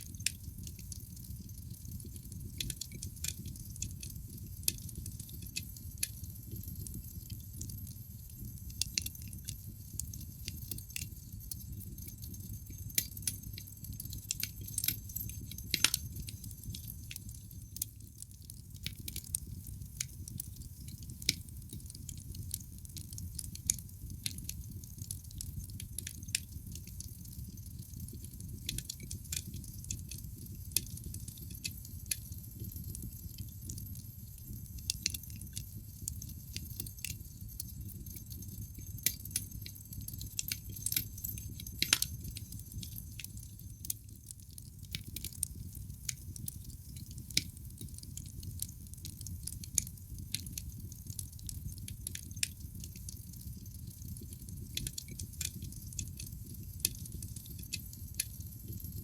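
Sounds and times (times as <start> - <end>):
low rumble of fire: 0.0 - 59.0
logs crackling and popping: 0.1 - 58.8.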